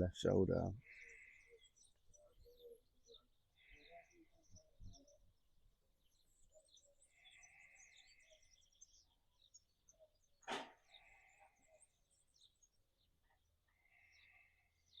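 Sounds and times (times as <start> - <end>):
buzzy bird calls: 0.0 - 5.4, 6.0 - 12.8
faint birds chirping: 0.0 - 15.0.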